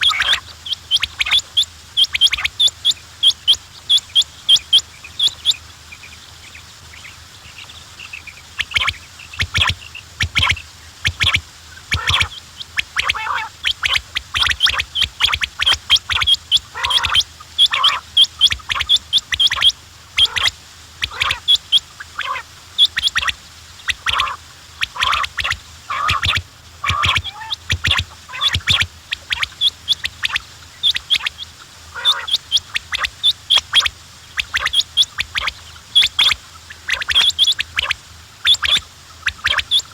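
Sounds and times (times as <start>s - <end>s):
quails calling: 0.0s - 39.9s.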